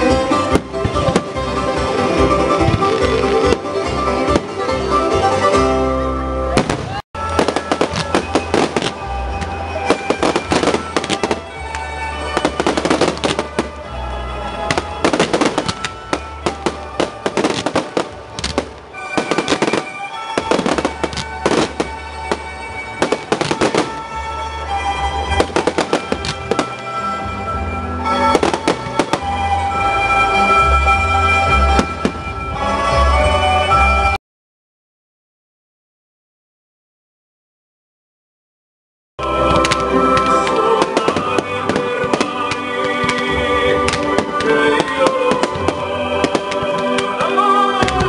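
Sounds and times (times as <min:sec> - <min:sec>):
fireworks bursting: 0:00.0 - 0:04.9, 0:06.6 - 0:30.0, 0:30.6 - 0:32.8, 0:39.2 - 0:48.0
music playing: 0:00.0 - 0:34.2, 0:39.2 - 0:48.0.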